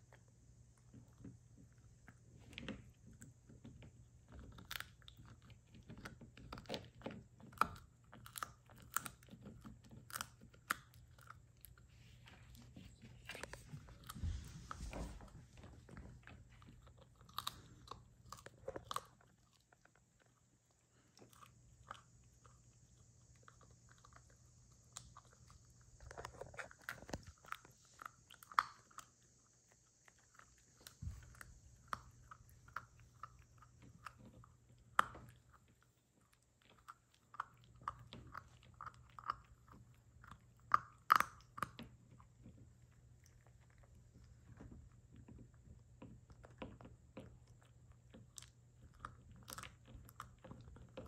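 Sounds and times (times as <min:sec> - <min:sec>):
puppy chewing hard chew: 0:00.8 - 0:51.0.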